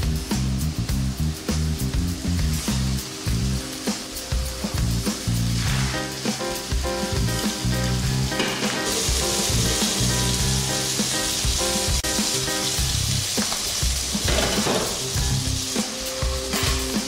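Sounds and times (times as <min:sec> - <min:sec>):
background music: 0:00.0 - 0:17.0
food sizzling in oil: 0:00.0 - 0:17.0.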